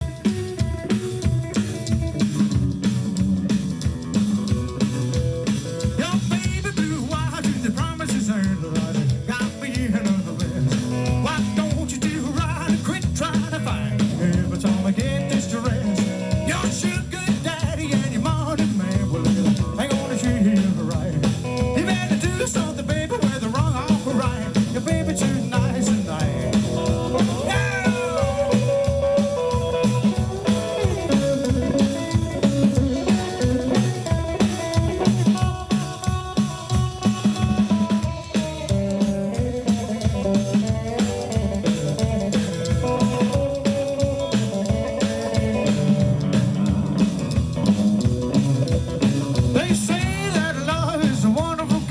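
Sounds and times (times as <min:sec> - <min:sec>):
rock and roll band playing: 0:00.0 - 0:51.9.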